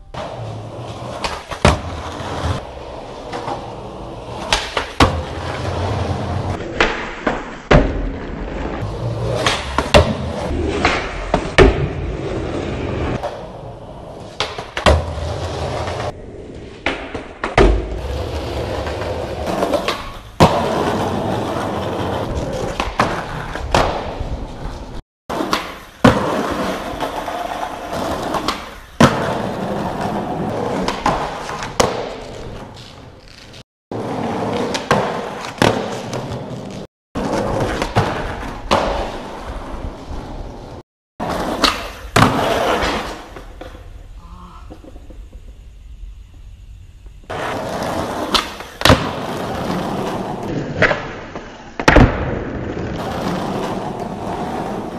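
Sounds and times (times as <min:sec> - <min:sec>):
skateboard wheels rolling on asphalt: 0:00.0 - 0:54.9
skateboard popping and slapping down: 0:00.2 - 0:02.6, 0:03.2 - 0:16.1, 0:16.8 - 0:43.9, 0:47.3 - 0:54.9.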